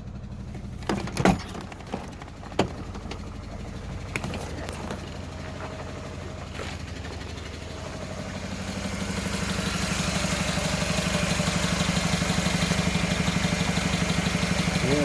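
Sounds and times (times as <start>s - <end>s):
petrol engine running: 0.0s - 15.0s.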